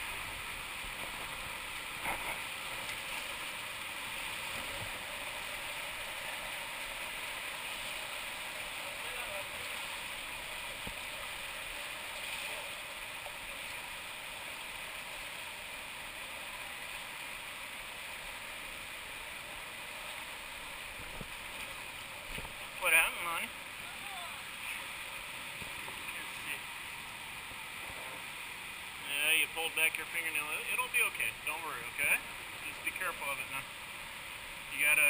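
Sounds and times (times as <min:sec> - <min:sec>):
water rushing over rocks: 0:00.0 - 0:35.0.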